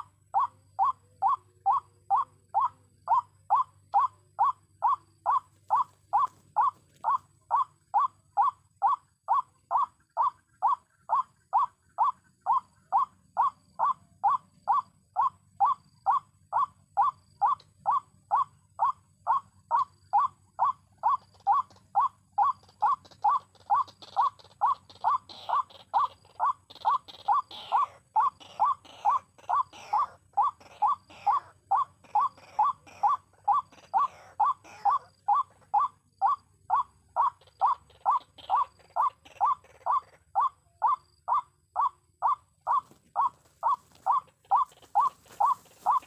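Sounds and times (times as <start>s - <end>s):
bird croaking call: 0.0s - 46.0s.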